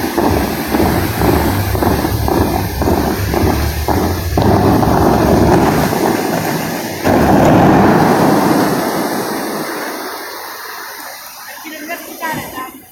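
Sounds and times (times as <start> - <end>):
fountain water jets whooshing: 0.0 - 12.9.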